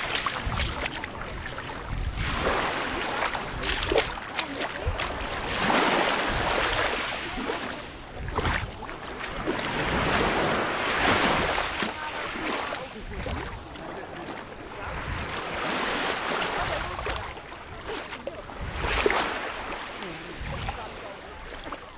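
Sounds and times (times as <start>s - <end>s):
waves breaking on pebbly shore: 0.0s - 21.9s.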